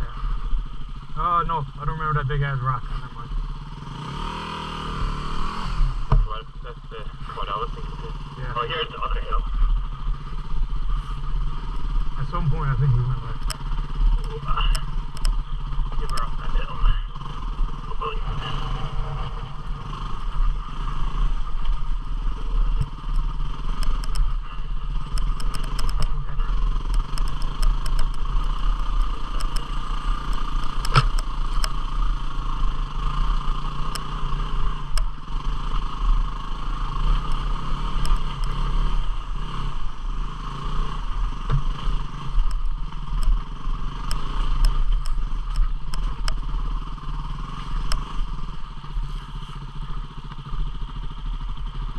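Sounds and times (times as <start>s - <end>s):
motorcycle engine running: 0.0s - 51.9s
sharp clicks and clatter: 10.0s - 51.9s.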